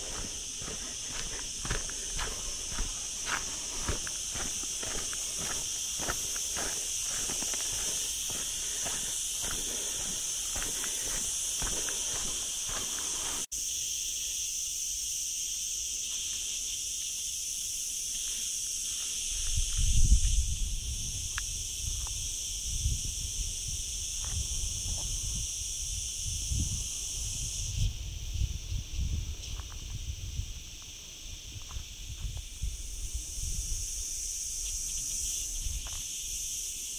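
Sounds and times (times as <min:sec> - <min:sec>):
cicadas buzzing: 0:00.0 - 0:36.9.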